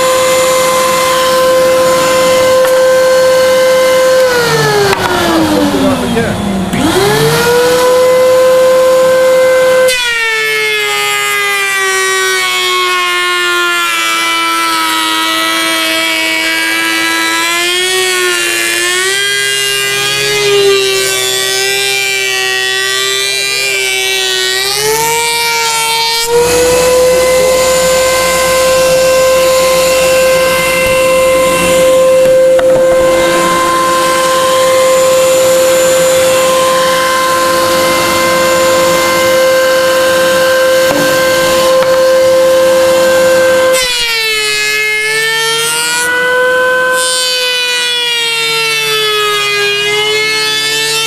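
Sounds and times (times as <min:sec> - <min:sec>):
planer motor whine: 0:00.0 - 0:51.0
wood cutting rush: 0:00.0 - 0:51.0.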